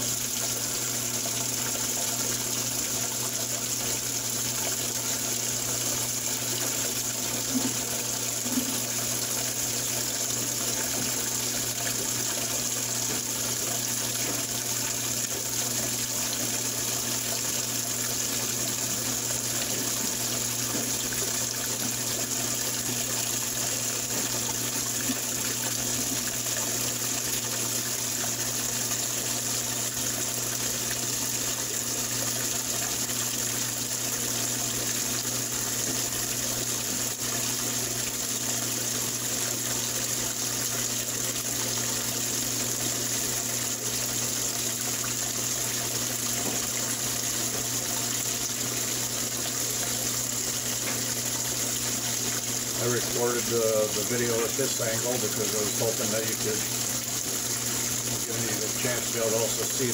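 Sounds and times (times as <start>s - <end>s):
water pouring into washing machine: 0.0s - 59.9s.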